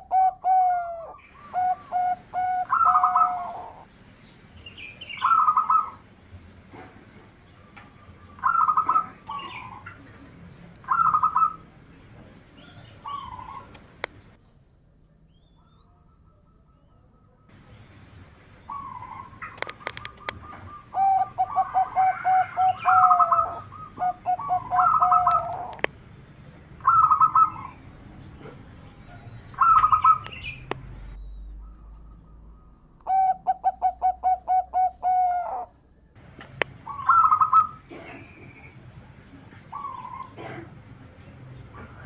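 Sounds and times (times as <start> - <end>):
doves cooing: 0.0 - 3.9, 5.0 - 14.4, 18.6 - 25.9, 26.8 - 30.8, 31.4 - 35.9, 36.5 - 42.0.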